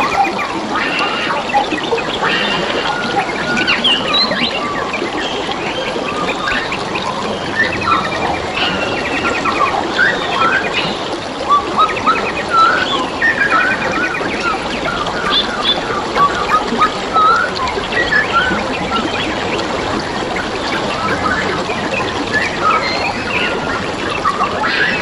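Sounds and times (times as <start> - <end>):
birds chirping and trilling: 0.0 - 25.0
flowing water: 0.0 - 25.0.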